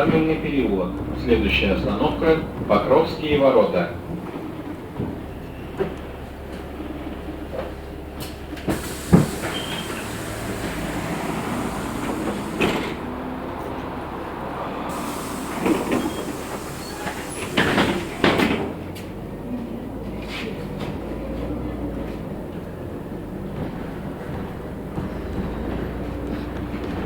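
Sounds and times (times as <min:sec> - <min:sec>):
bus interior running rumble: 0:00.0 - 0:27.0.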